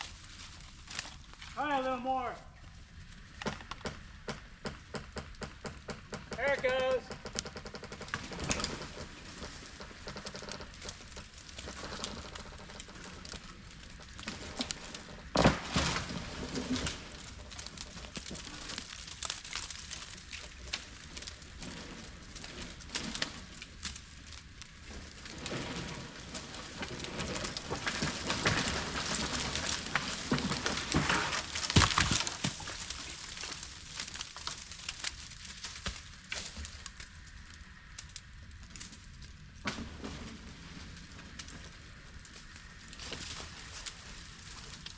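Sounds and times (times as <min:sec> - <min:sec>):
dry branches and leaves crackling: 0:00.0 - 0:44.9
loud sharp wood cracks: 0:03.2 - 0:44.9.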